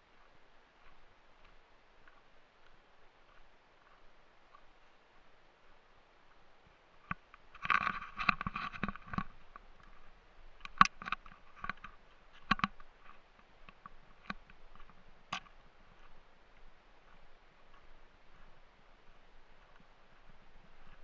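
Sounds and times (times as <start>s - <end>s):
footsteps on rocky dirt trail: 0.1s - 21.0s.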